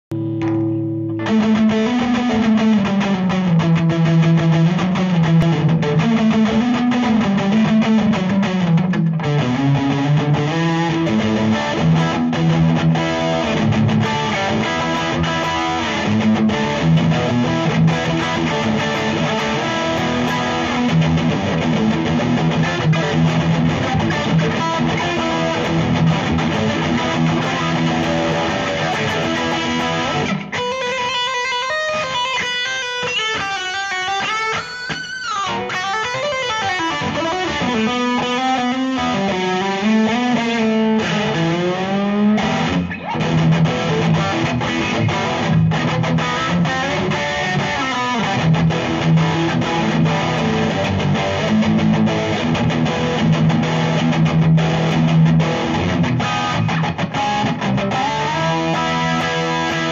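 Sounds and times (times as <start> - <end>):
electric guitar jam: 0.0 - 59.9.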